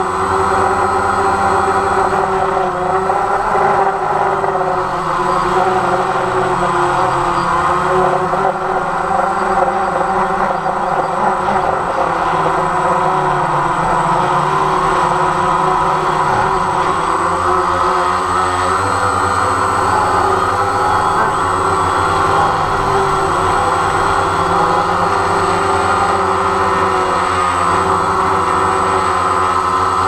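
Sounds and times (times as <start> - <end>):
drone propellers buzzing: 0.0 - 30.0.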